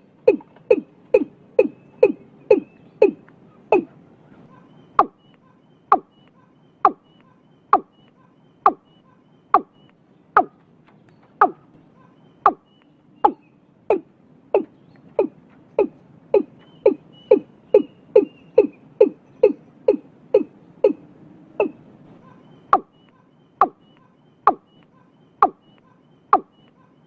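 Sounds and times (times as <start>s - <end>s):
bird calling deep notes: 0.0s - 27.0s.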